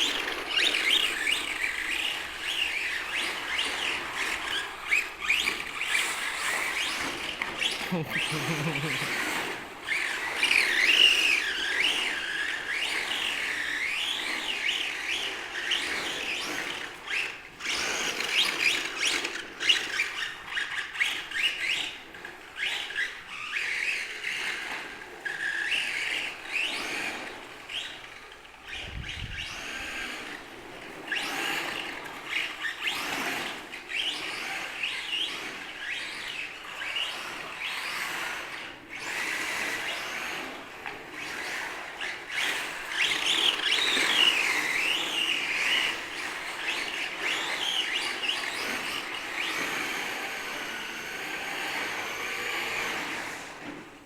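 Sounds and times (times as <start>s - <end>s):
toy truck motors whining: 0.0s - 54.0s.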